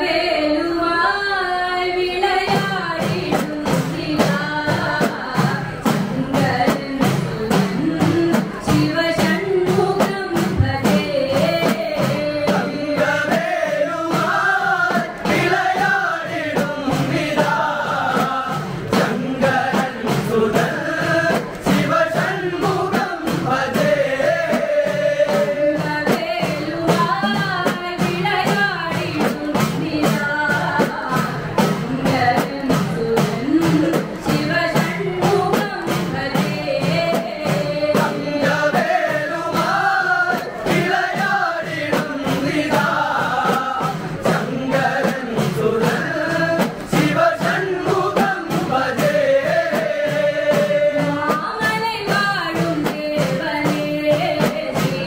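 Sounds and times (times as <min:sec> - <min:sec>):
woman singing: 0:00.0 - 0:55.0
hand drums beating: 0:02.3 - 0:55.0
men singing: 0:03.2 - 0:55.0.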